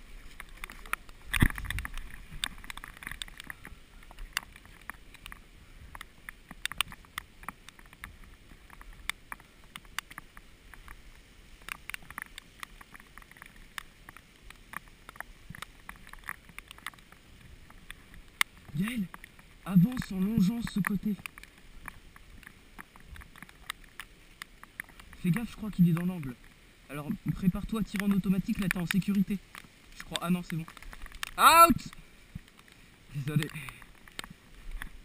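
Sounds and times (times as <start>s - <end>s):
rustling through undergrowth: 0.0s - 35.0s.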